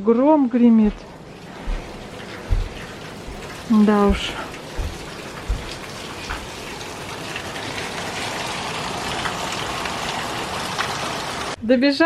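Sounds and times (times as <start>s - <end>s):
raindrop taps: 0.8s - 11.3s
heavy rain pouring: 0.9s - 11.6s.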